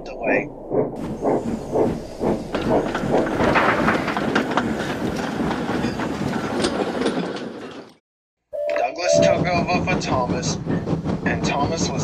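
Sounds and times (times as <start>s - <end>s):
steam locomotive chuffing: 0.7s - 7.8s, 9.0s - 12.0s
wagons clattering over rail joints: 1.0s - 8.0s, 9.0s - 12.0s.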